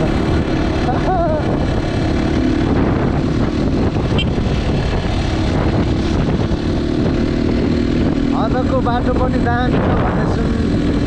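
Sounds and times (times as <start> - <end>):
motorcycle engine cruising: 0.0 - 11.0
wind noise on microphone: 0.0 - 11.0.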